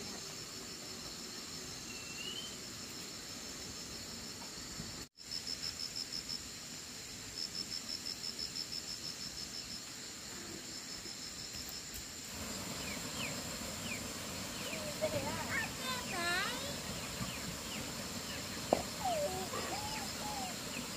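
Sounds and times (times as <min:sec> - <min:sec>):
insects trilling: 0:00.0 - 0:20.9.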